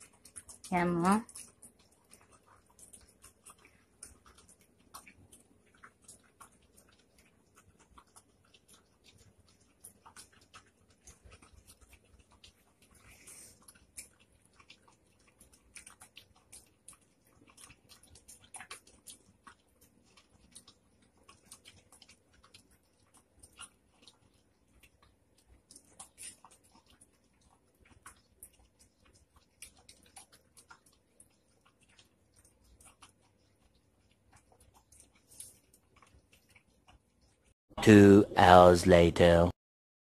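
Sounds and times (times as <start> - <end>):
dog chewing and licking: 0.0 - 37.6.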